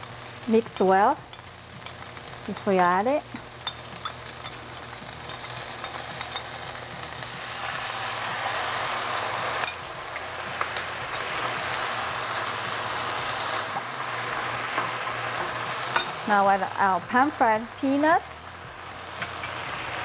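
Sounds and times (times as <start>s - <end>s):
food sizzling in a hot pan: 0.0s - 20.0s.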